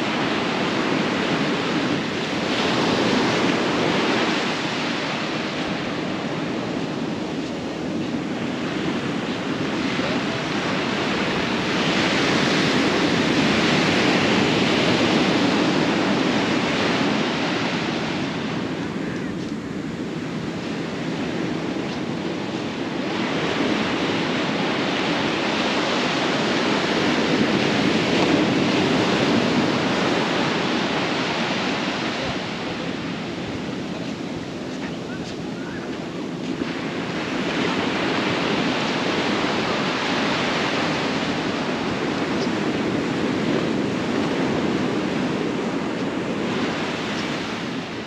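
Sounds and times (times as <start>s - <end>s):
surf breaking on beach: 0.0s - 48.0s
wind on microphone: 0.0s - 48.0s.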